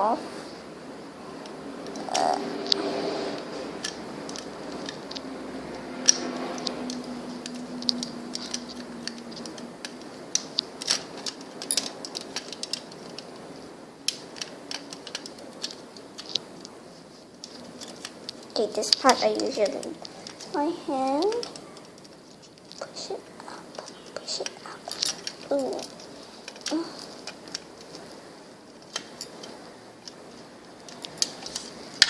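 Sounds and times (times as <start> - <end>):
rubber bands clicking and rattling: 3.4 - 32.0.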